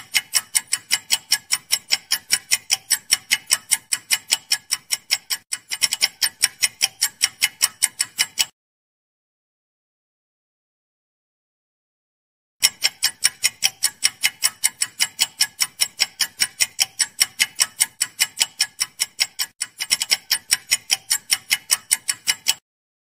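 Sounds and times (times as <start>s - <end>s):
fast clock ticks: 0.0s - 8.6s, 12.6s - 22.6s.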